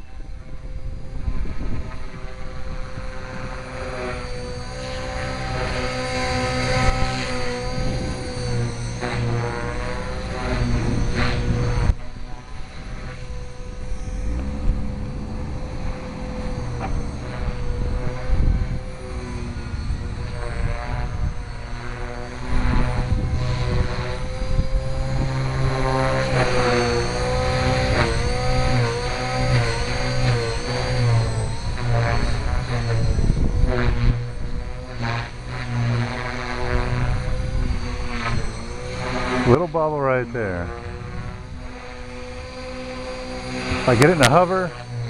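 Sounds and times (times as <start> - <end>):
rc helicopter motor whine: 0.0 - 45.0.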